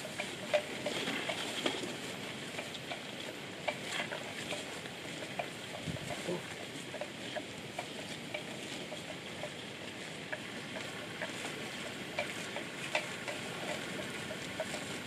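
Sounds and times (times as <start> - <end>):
buffalo tearing and chewing grass: 0.0 - 15.0.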